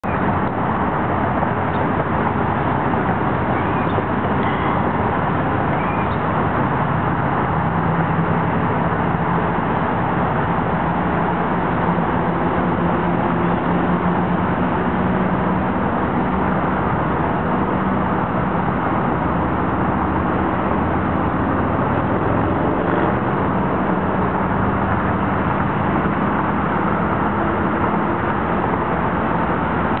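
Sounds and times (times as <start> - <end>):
boat diesel engine drone: 0.0 - 30.0
continuous rushing noise: 0.0 - 30.0.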